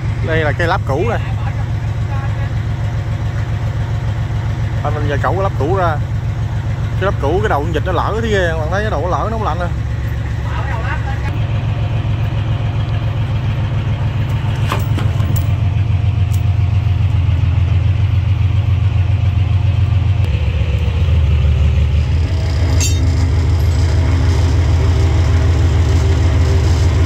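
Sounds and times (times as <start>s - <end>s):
crane engine humming: 0.0s - 27.0s.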